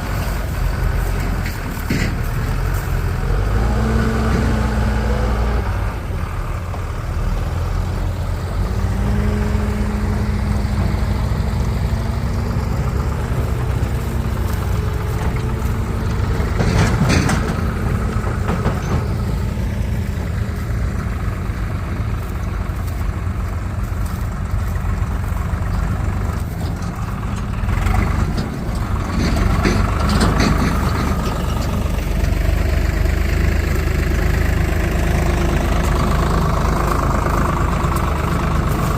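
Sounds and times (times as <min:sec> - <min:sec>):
engine clattering: 0:00.0 - 0:38.9
heavy diesel engine running: 0:00.0 - 0:38.9.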